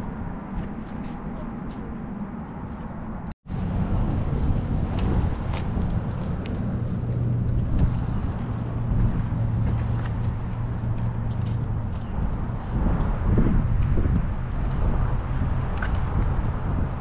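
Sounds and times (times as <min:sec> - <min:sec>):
tyre and road noise: 0:00.0 - 0:17.0
car engine hum: 0:01.5 - 0:17.0.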